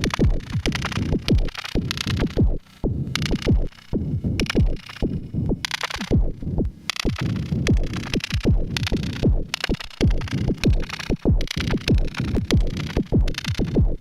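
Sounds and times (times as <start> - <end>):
electronic kick drums: 0.0 - 14.0.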